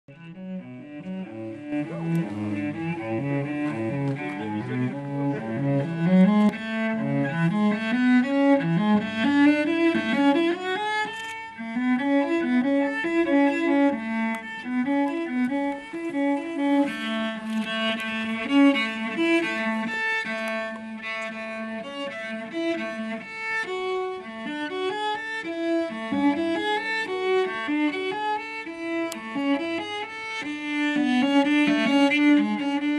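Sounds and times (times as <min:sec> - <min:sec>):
solo cello playing: 0:00.1 - 0:32.9.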